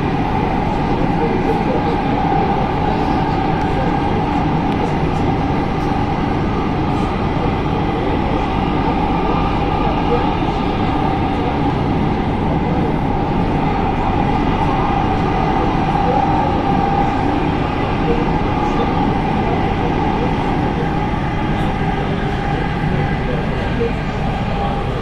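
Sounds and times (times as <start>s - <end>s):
constant whine: 0.0s - 25.0s
train rumble: 0.0s - 25.0s.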